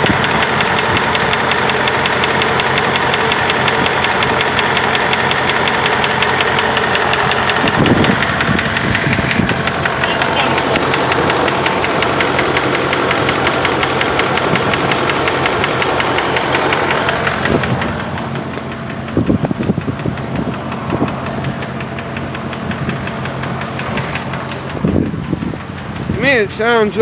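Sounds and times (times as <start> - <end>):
engine running with ticking: 0.0 - 27.0.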